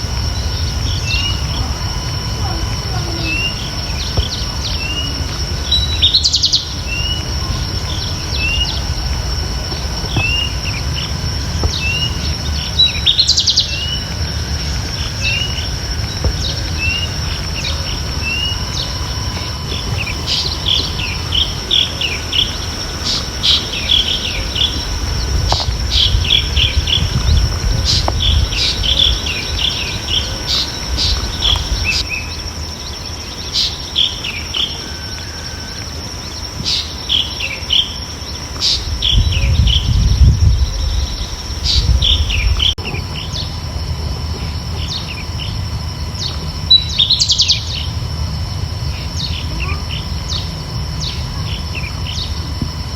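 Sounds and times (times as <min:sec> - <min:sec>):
low rumble: 0:00.0 - 0:33.1, 0:38.8 - 0:52.9
birds chirping: 0:00.0 - 0:52.9
high-pitched whine: 0:00.0 - 0:52.9.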